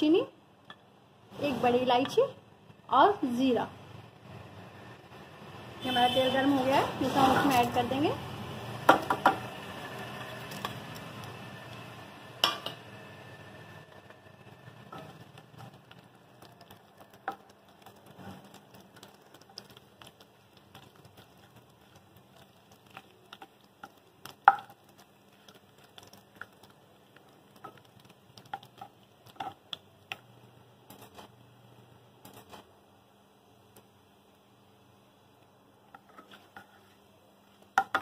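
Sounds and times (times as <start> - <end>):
spices crackling in hot oil: 0.0 - 38.0.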